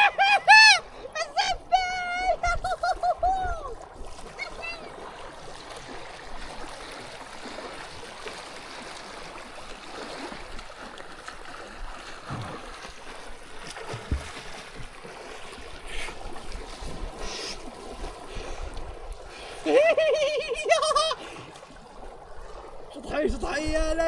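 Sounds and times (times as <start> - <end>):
river water rushing: 0.0 - 23.1.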